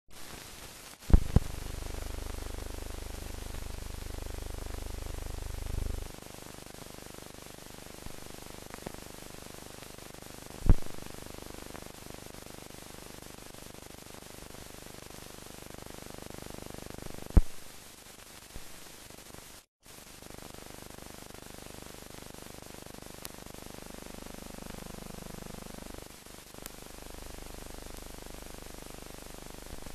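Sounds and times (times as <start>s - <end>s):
old film soundtrack hiss: 0.1s - 29.9s.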